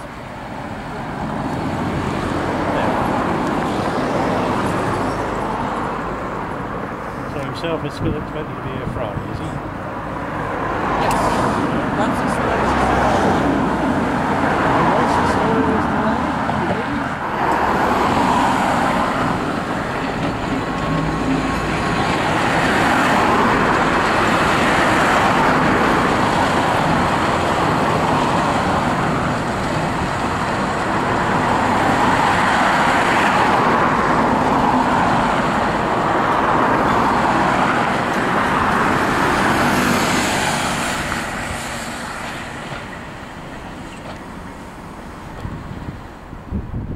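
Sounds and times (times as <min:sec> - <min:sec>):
cars passing close by: 0:00.0 - 0:46.9.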